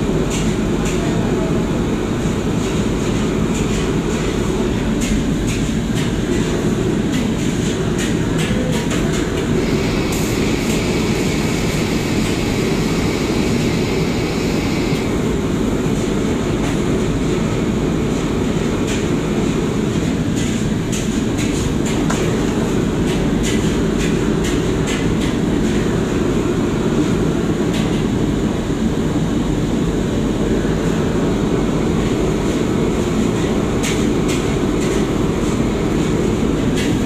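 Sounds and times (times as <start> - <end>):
low roar of burners and extractor: 0.0 - 37.0.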